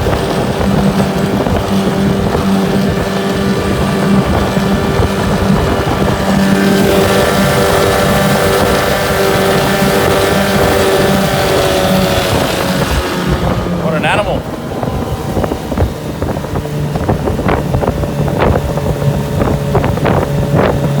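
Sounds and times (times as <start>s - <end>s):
outboard motor running hard: 0.0s - 21.0s.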